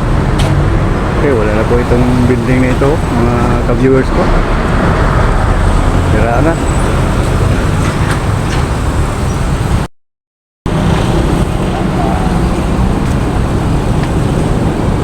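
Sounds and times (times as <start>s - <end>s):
road traffic rumble: 0.0s - 9.9s, 10.7s - 15.0s.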